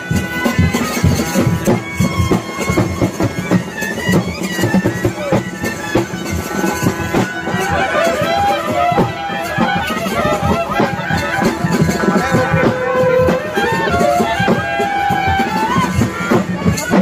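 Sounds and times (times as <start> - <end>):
brass horns holding long notes: 0.0 - 2.6, 4.5 - 17.0
drums beating steadily: 0.0 - 17.0
wavering wind melody: 0.0 - 17.0.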